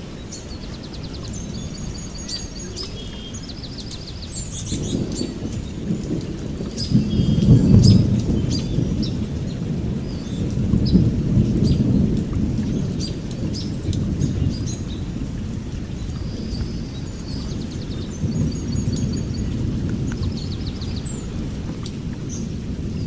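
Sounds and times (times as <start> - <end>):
small birds chirping: 0.0 - 23.0
wind buffeting microphone: 0.0 - 23.0.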